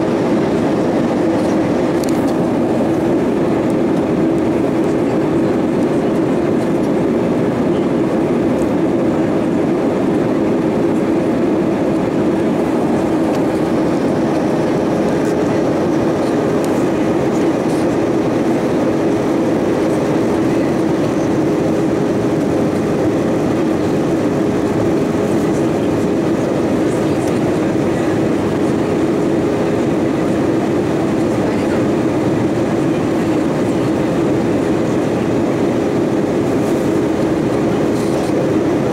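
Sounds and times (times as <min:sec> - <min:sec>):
constant hum: 0:00.0 - 0:38.9
jet engine and airflow rush: 0:00.0 - 0:38.9.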